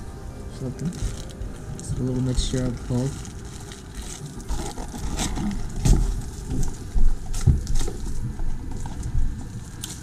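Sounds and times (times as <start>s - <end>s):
plastic packaging crinkling: 0.6s - 10.0s.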